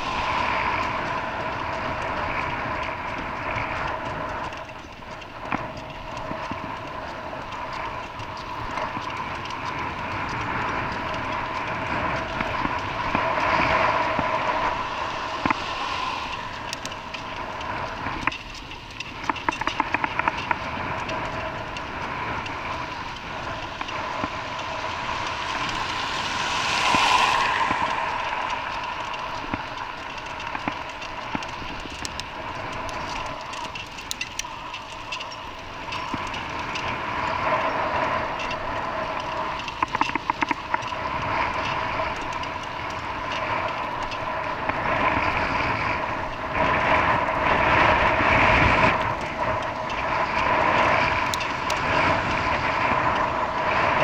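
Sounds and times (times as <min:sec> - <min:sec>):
vehicle running noise with whine: 0:00.0 - 0:54.0.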